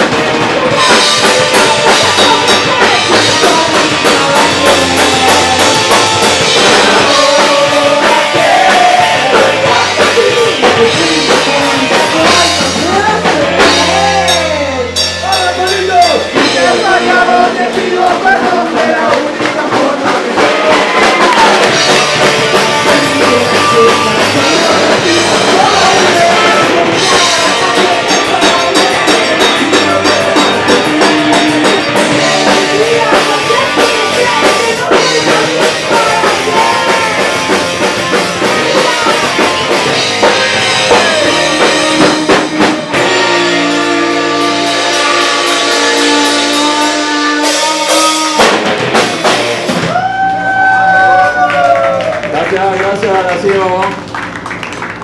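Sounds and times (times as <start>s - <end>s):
person singing: 0.0s - 48.6s
punk rock band playing: 0.0s - 55.0s.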